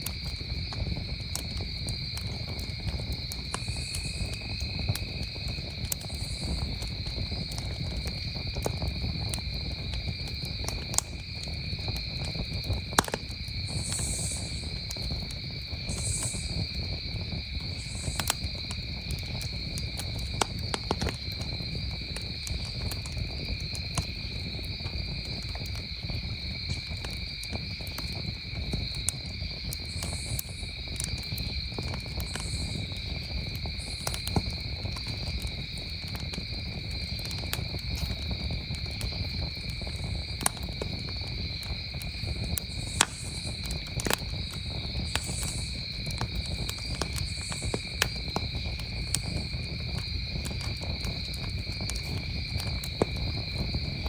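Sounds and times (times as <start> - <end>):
campfire crackling and popping: 0.0 - 54.0
crickets trilling: 0.0 - 54.0.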